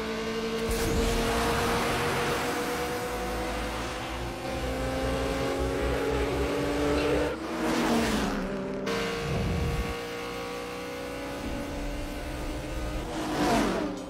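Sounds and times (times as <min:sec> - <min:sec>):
racing car engines at full throttle: 0:00.0 - 0:14.0.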